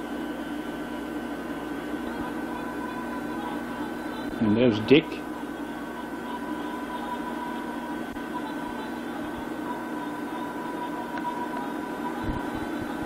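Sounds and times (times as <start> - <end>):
steady hiss and hum: 0.0 - 13.0.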